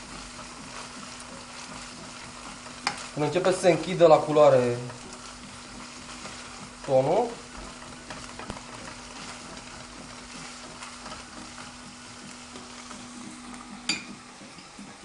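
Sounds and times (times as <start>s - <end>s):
fish sizzling in oil: 0.0s - 15.0s
wooden spatula scraping pan: 0.0s - 15.0s.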